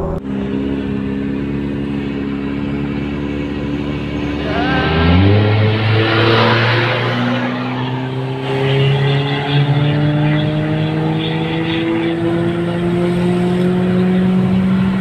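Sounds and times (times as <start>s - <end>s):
car engine accelerating: 0.0s - 15.0s
passing vehicle road rush: 0.0s - 15.0s.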